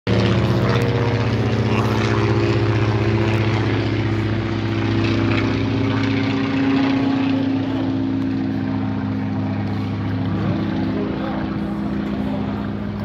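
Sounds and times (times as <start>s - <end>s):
propeller plane droning overhead: 0.1s - 13.0s.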